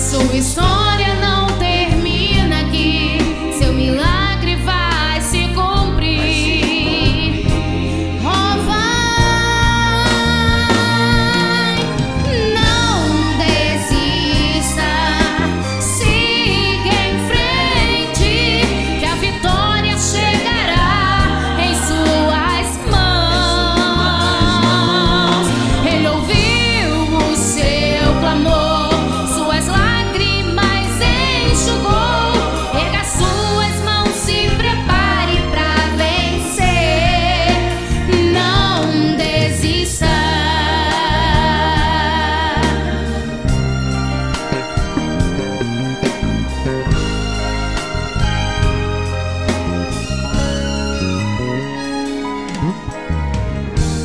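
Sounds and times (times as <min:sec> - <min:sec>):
woman singing into a microphone: 0:00.0 - 0:43.3
instrumental backing track: 0:00.0 - 0:54.0.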